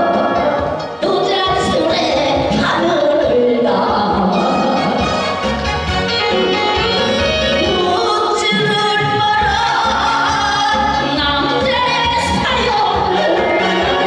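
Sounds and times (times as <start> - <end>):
trot backing track: 0.0 - 14.0.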